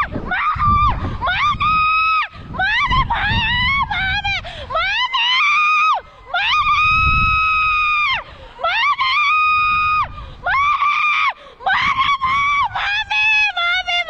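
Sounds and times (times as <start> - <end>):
woman screaming: 0.2 - 14.0.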